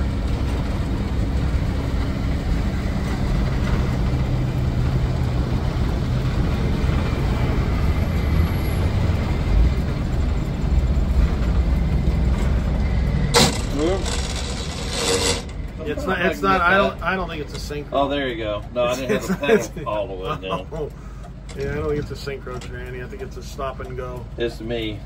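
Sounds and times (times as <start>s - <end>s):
low engine rumble: 0.0s - 25.0s
road noise: 0.0s - 25.0s.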